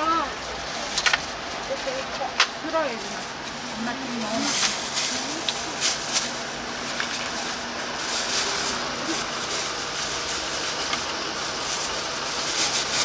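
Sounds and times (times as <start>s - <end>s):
plastic bag rustling and crinkling: 0.0s - 13.0s
steady mechanical hum: 0.0s - 13.0s.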